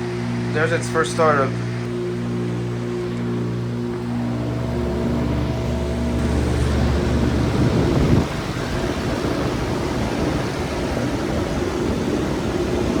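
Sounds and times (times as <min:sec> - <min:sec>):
heat pump compressor and fan humming: 0:00.0 - 0:13.0.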